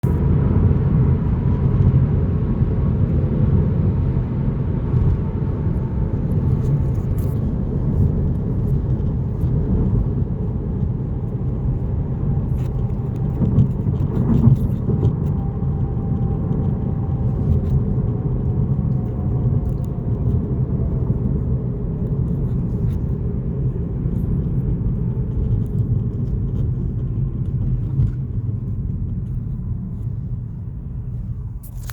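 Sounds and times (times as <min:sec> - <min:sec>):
road and tyre rumble: 0:00.0 - 0:31.9.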